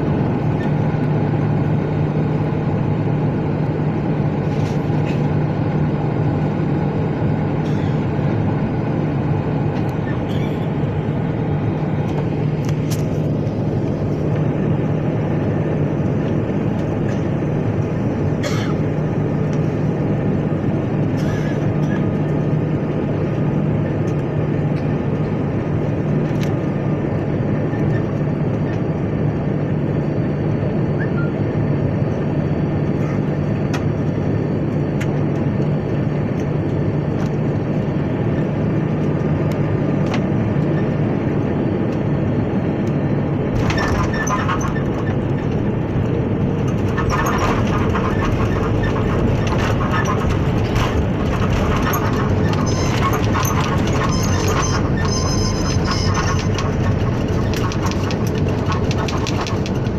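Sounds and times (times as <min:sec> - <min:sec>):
airliner cabin engine rush: 0:00.0 - 0:59.9
low constant hum: 0:00.0 - 0:59.9.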